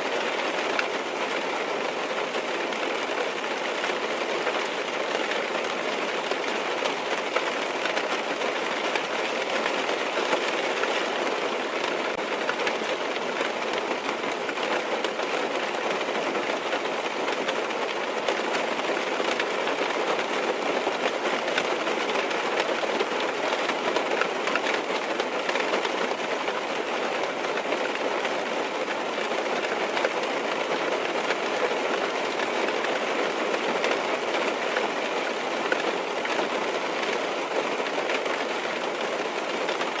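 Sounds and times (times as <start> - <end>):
rain on car roof: 0.0 - 40.0.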